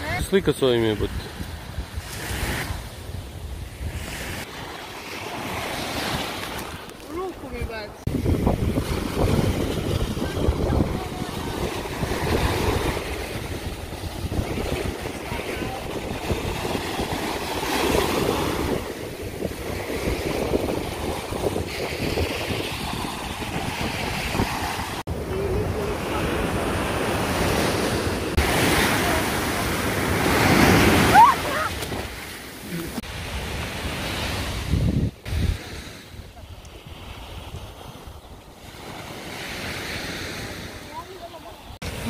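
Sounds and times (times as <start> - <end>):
waves washing over sand: 0.0 - 42.0
wind on microphone: 1.0 - 4.7, 5.4 - 42.0.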